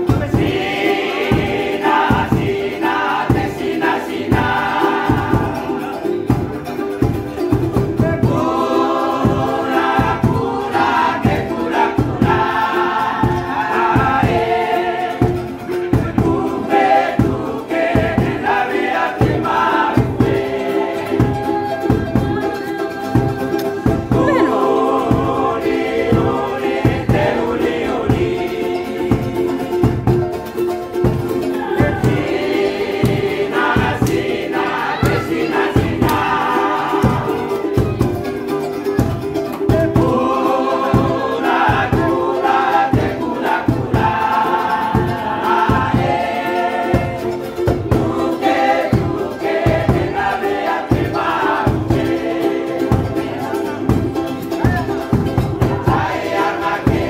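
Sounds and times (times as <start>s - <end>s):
group singing: 0.0s - 57.0s
strummed guitar and ukuleles: 0.0s - 57.0s.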